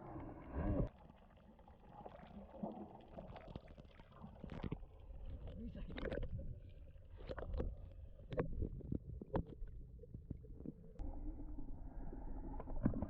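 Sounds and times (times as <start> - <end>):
muffled underwater rumble: 0.0 - 1.0, 2.1 - 13.0.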